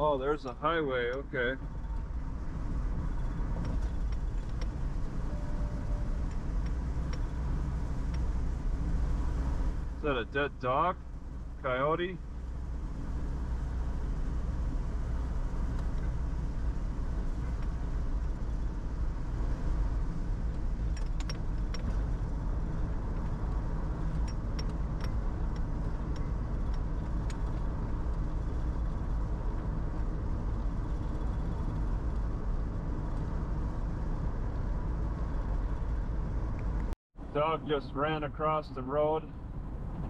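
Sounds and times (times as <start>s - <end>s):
car road noise: 0.0s - 40.0s.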